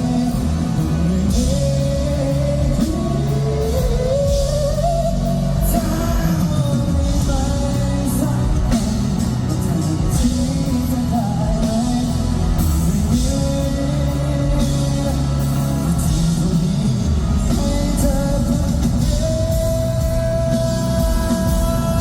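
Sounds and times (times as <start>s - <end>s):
electric guitar: 0.0s - 22.0s
lead vocal singing: 0.0s - 22.0s
live rock band playing: 0.0s - 22.0s.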